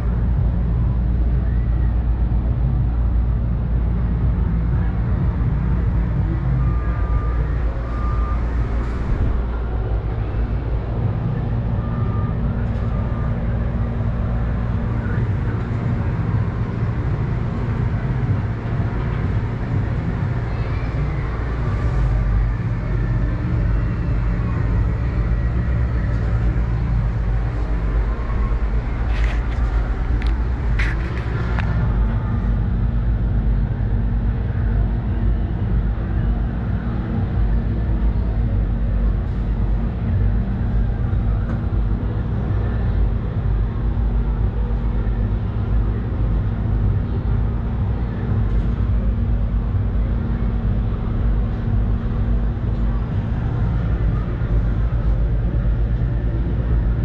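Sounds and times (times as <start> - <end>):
gondola low rumble and hum: 0.0 - 57.0.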